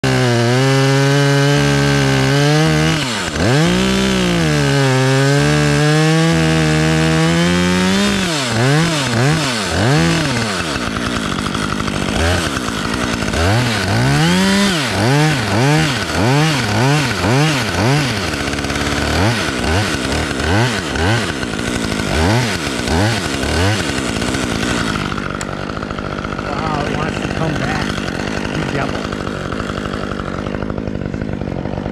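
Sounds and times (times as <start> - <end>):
chainsaw cutting and revving: 0.0 - 31.9.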